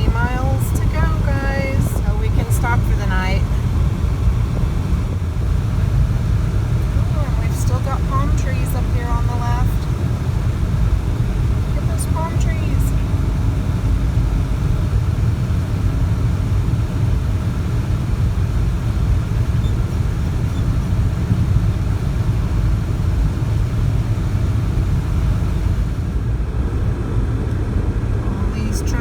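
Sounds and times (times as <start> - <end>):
car interior road and engine rumble: 0.0 - 29.0.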